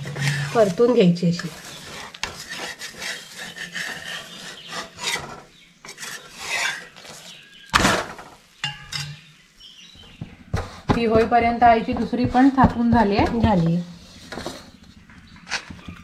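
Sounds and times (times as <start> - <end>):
spatula clatter: 0.0 - 9.2, 10.4 - 14.9
spatula scraping a griddle: 0.0 - 9.3, 10.0 - 16.0.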